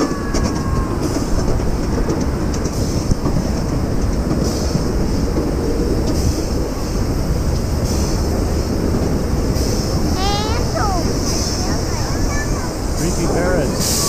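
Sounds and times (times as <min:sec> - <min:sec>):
miniature train wheels on rails: 0:00.0 - 0:14.0.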